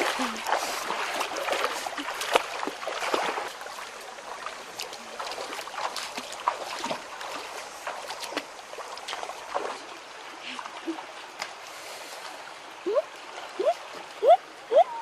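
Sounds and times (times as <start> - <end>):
river water trickling and splashing: 0.0 - 15.0.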